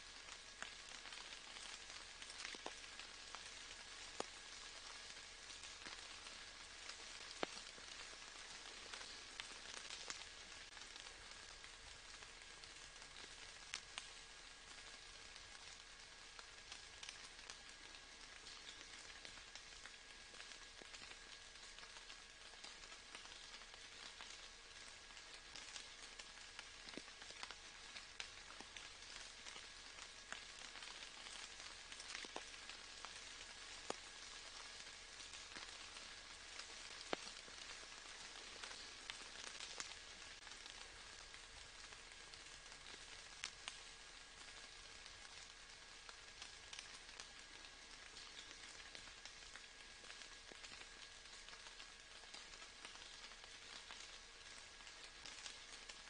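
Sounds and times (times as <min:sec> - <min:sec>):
faint steady hum: 0:00.0 - 0:56.0
single raindrops landing: 0:00.0 - 0:56.0
soft rain hiss: 0:00.0 - 0:56.0.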